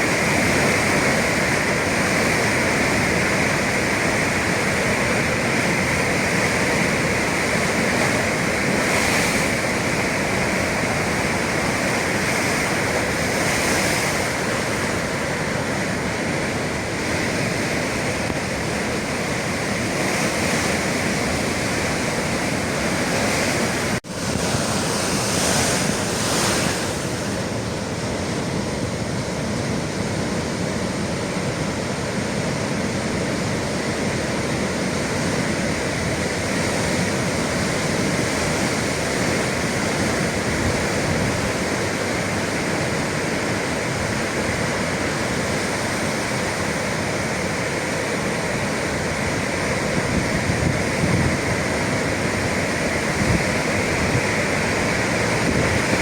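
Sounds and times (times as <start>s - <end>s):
waves breaking on shore: 0.0s - 56.0s
wind on microphone: 0.0s - 56.0s.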